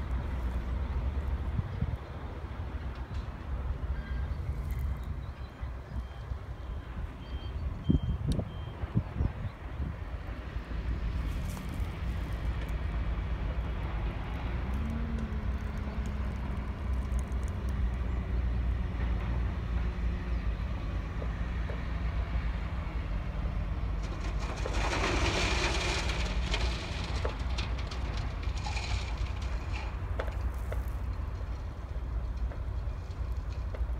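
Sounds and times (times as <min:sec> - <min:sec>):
diesel engines rumbling: 0:00.0 - 0:33.9.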